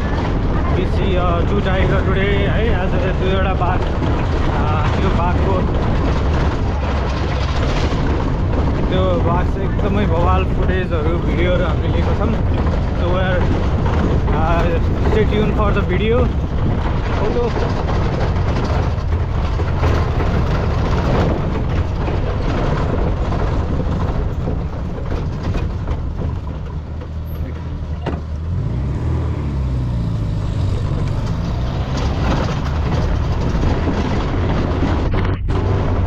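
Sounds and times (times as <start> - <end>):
vehicle engine running while driving: 0.0 - 36.0
wind and road noise: 0.0 - 36.0.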